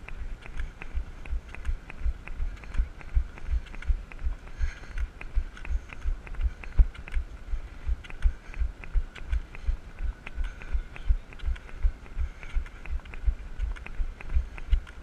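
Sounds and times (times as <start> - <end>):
deep thumps of running: 0.0 - 15.0.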